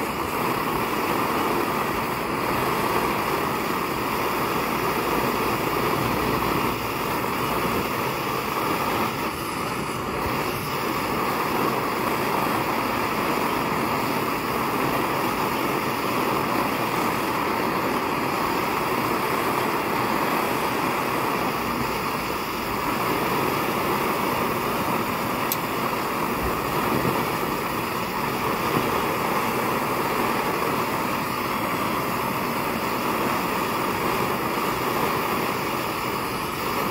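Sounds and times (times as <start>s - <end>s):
pressure stove burner rushing: 0.0s - 36.9s.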